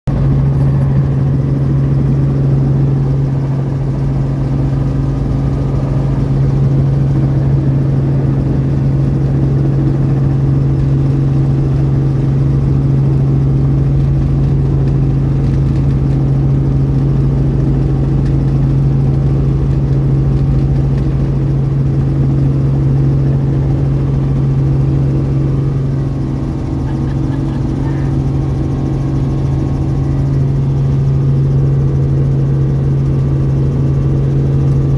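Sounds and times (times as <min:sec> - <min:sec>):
helicopter drone inside cabin: 0:00.1 - 0:34.9.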